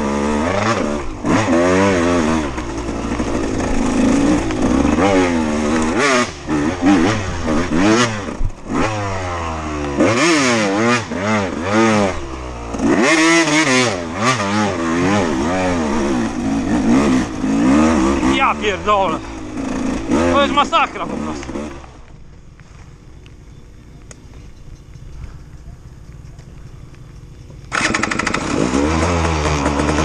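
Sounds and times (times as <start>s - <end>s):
dirt bike engine revving: 0.0s - 22.2s, 27.6s - 30.0s.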